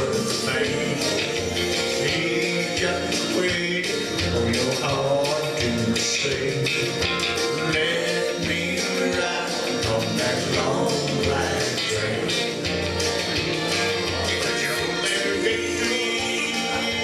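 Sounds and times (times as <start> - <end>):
country backing track with guitar: 0.0 - 17.0.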